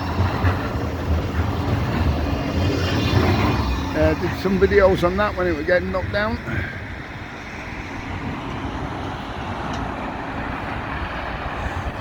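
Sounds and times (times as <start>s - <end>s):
tram rolling rumble: 0.0s - 12.0s.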